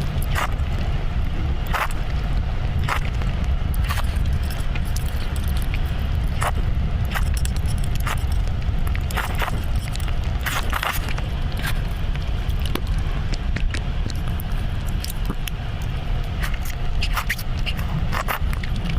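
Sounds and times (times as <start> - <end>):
eating crunches and clicks: 0.0 - 0.9, 1.6 - 18.9
steady low rumble: 0.0 - 18.9.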